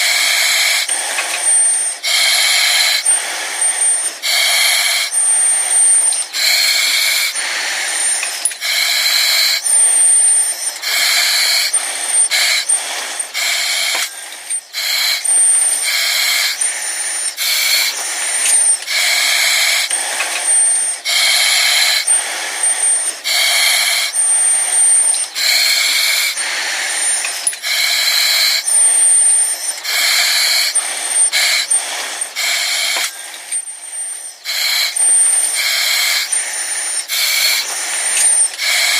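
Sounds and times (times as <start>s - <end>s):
hissing breaths through mask: 0.0s - 38.9s.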